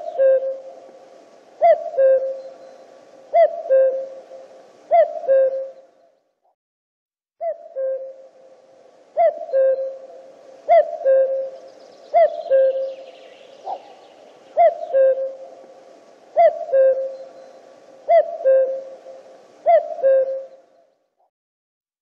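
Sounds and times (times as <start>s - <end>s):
cuckoo calling: 0.0s - 6.2s, 7.4s - 20.9s.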